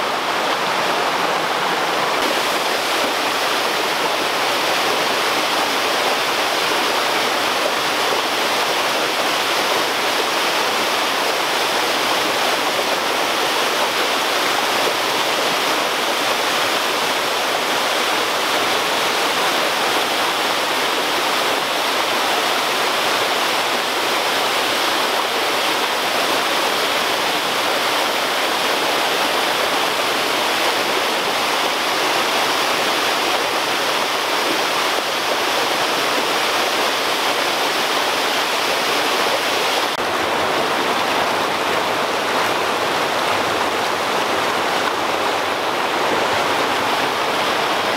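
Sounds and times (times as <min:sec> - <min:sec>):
waterfall splashing over rocks: 0:00.0 - 0:47.9.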